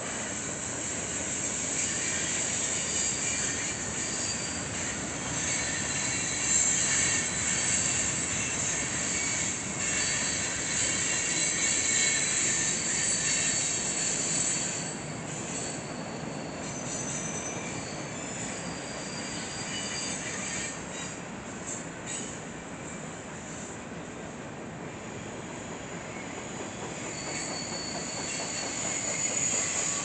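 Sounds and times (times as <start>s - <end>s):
train wheels squealing on rails: 0.0s - 30.0s.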